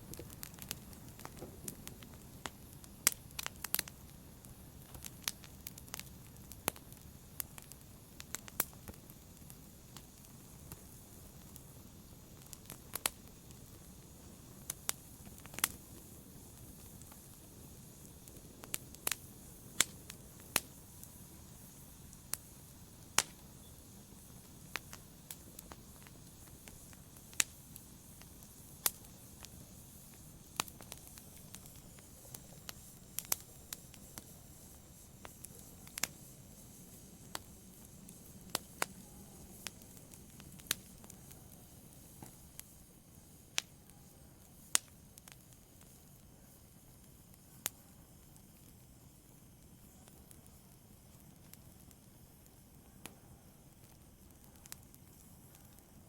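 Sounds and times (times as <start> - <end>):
faint low hiss: 0.0 - 56.0
wood fire crackling: 0.0 - 56.0.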